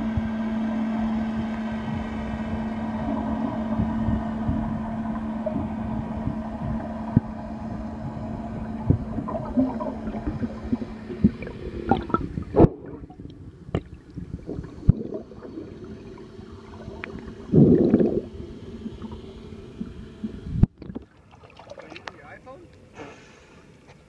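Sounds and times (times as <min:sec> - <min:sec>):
low machinery hum underwater: 0:00.0 - 0:24.0
water gurgling: 0:00.8 - 0:22.4.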